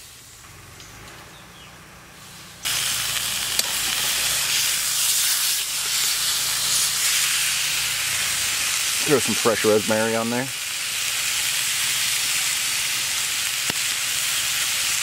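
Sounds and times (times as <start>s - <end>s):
steak sizzling in a skillet: 2.6s - 15.0s.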